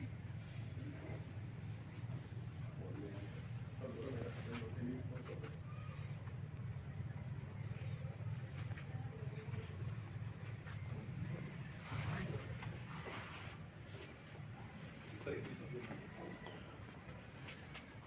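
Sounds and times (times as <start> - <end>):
cricket trilling: 0.0 - 18.0.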